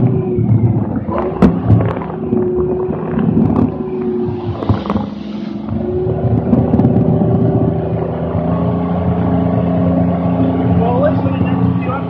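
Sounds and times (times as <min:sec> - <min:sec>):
clatter of vehicle tracks: 0:00.0 - 0:12.0
diesel engine running: 0:00.0 - 0:12.0.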